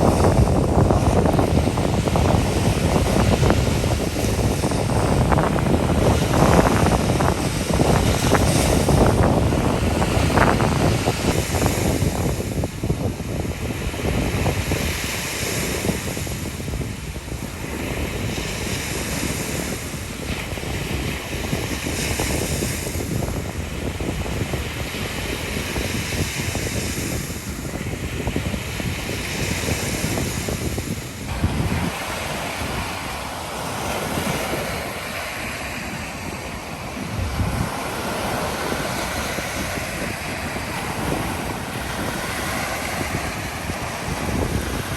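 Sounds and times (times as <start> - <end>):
ocean surf washing onto beach: 0.0 - 44.9
wind buffeting microphone: 0.0 - 44.9.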